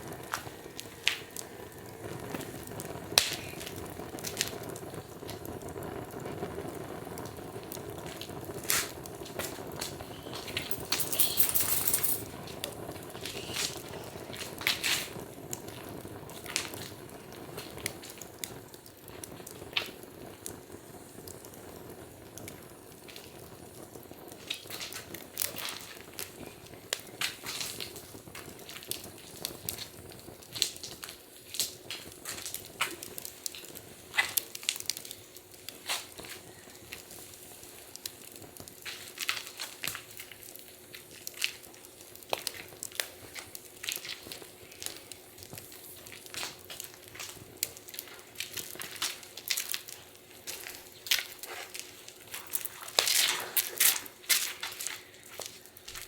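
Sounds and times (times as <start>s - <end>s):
low hiss of flames: 0.0s - 56.0s
wood fire crackling: 0.0s - 56.0s.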